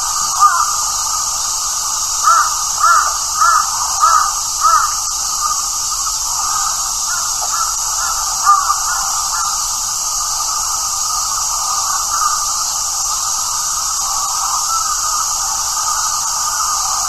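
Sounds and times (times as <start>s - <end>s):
steady high hiss: 0.0s - 17.0s
crow cawing: 0.1s - 1.2s, 2.2s - 17.0s.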